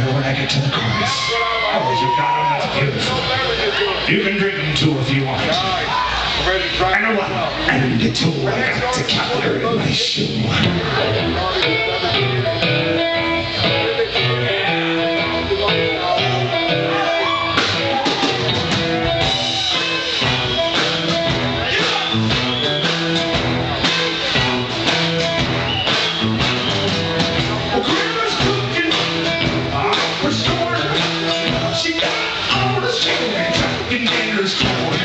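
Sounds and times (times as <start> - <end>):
guitar: 0.0 - 35.0
live band playing upbeat song: 0.0 - 35.0.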